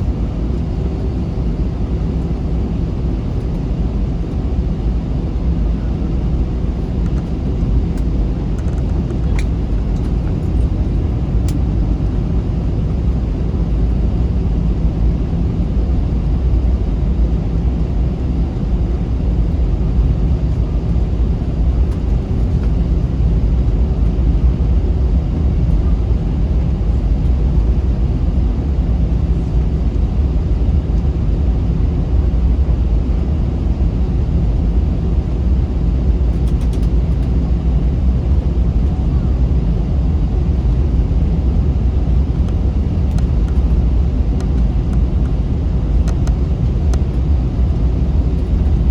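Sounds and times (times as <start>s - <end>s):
jet engines idling: 0.0s - 48.9s.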